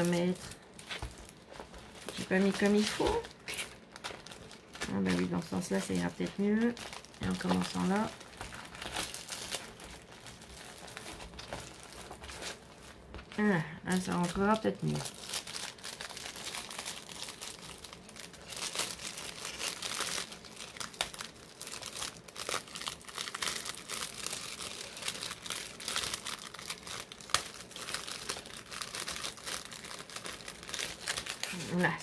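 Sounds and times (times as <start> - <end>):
plastic sleeve crinkling: 0.0 - 32.0.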